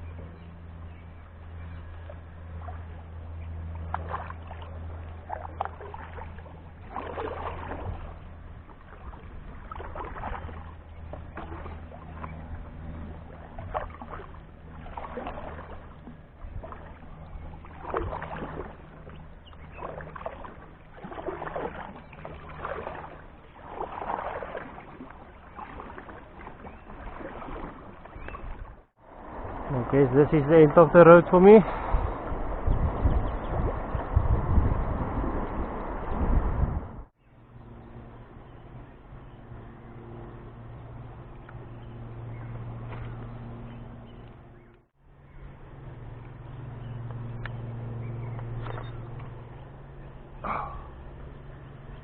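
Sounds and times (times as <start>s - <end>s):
paddle splashing in water: 0.0s - 36.4s, 40.4s - 52.0s
low hum: 0.0s - 52.0s.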